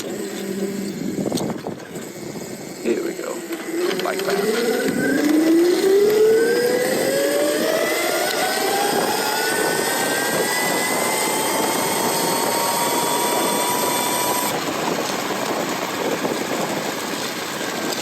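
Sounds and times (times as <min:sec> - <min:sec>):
electric bike motor whining: 0:00.0 - 0:18.0
wind rushing: 0:00.1 - 0:17.9.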